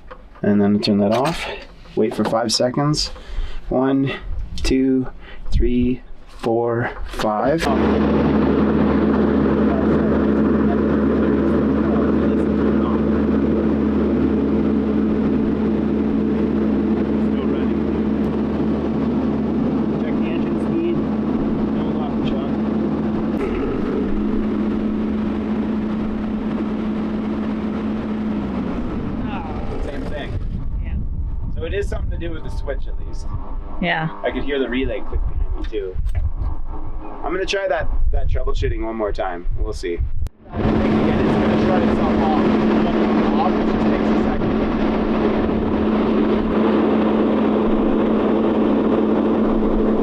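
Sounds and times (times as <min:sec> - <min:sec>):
diesel engine droning: 0:00.0 - 0:38.1, 0:40.4 - 0:50.0.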